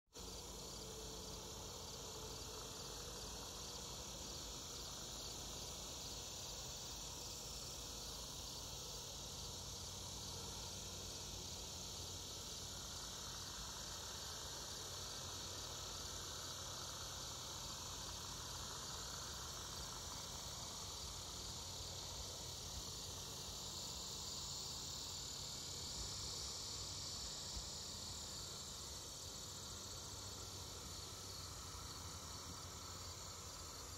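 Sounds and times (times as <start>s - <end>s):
insects humming: 0.2s - 33.9s.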